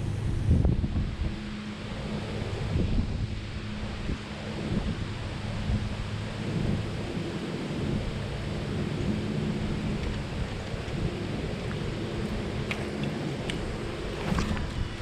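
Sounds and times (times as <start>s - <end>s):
faint hum: 0.0s - 15.0s
wind buffeting microphone: 0.0s - 15.0s.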